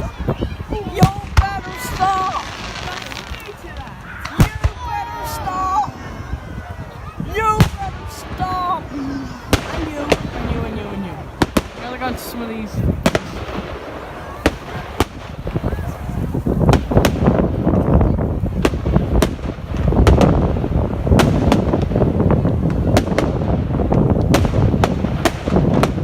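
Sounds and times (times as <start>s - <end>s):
fireworks bangs and cracks: 0.0s - 26.0s.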